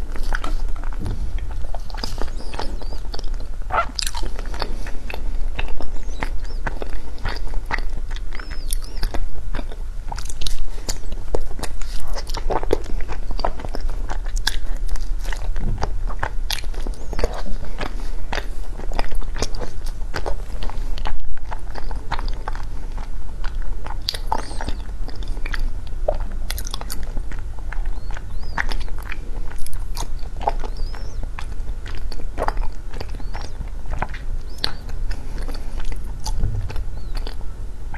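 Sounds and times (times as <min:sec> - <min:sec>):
crunching and chewing ice: 0:00.0 - 0:37.9.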